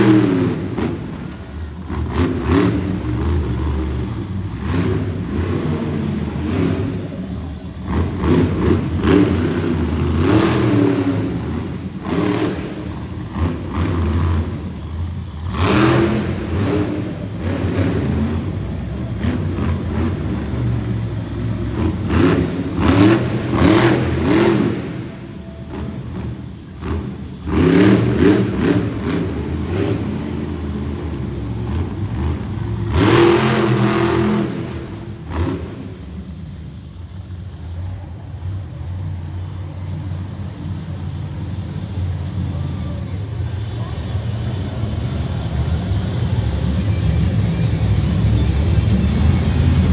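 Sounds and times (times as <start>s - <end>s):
truck engine revving hard: 0.0s - 49.9s.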